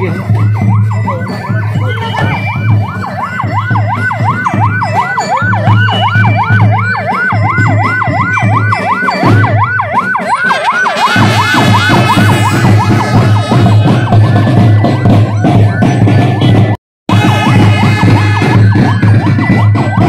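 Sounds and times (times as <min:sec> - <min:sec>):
electronic siren yelping: 0:00.0 - 0:20.0
music: 0:00.0 - 0:20.0.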